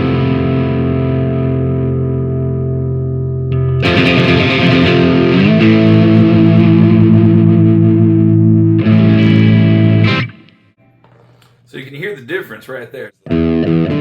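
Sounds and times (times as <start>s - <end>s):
distorted electric guitar chords: 0.0s - 10.8s, 13.2s - 14.0s.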